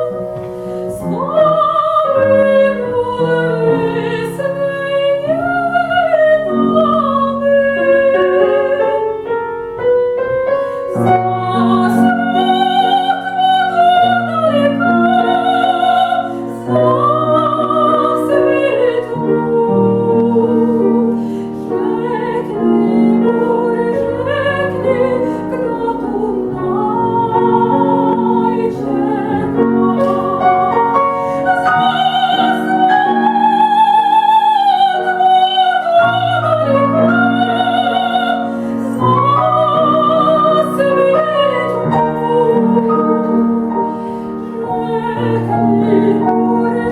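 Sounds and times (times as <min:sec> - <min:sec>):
grand piano: 0:00.0 - 0:46.9
woman singing classical aria: 0:00.0 - 0:46.9.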